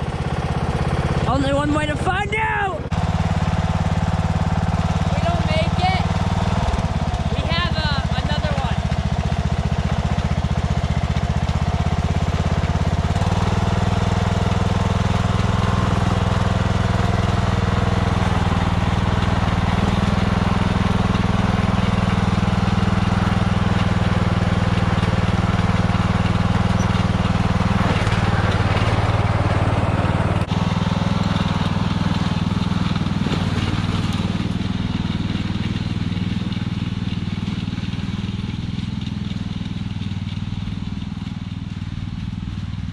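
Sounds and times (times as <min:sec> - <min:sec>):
lawn tractor engine running: 0:00.0 - 0:42.9.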